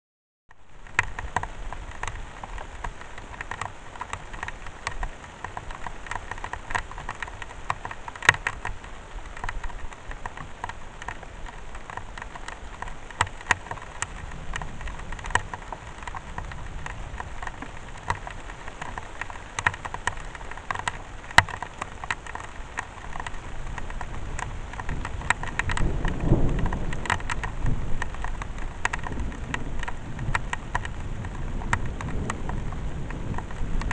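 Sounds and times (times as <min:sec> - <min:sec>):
sharp drip ticks: 0:00.5 - 0:33.9
steady rain: 0:00.5 - 0:33.9.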